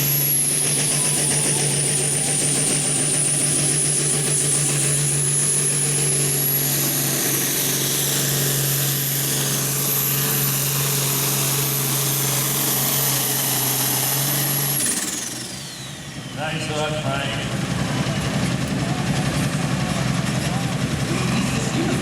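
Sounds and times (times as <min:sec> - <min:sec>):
diesel tractor engine under load: 0:00.0 - 0:22.0.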